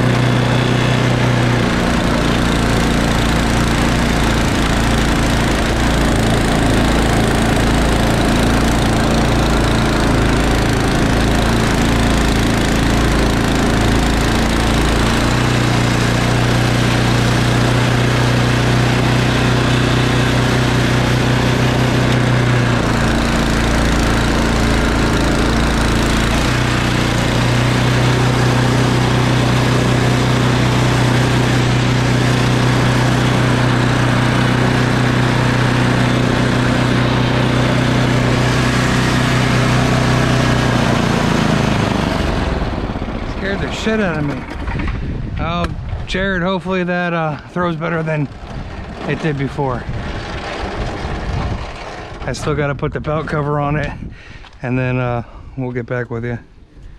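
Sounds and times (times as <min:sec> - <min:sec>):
snowblower engine running: 0:00.0 - 0:55.4.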